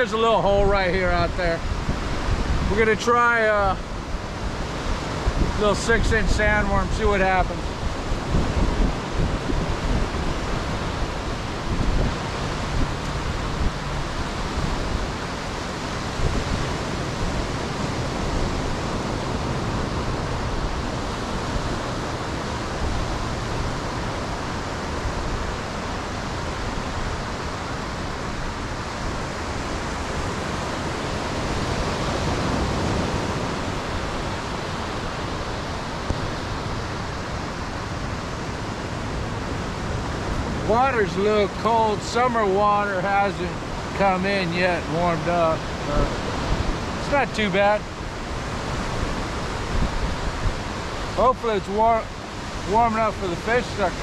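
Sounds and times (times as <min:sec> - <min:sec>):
ocean surf breaking: 0:00.0 - 0:54.0
wind gusting on microphone: 0:00.0 - 0:54.0.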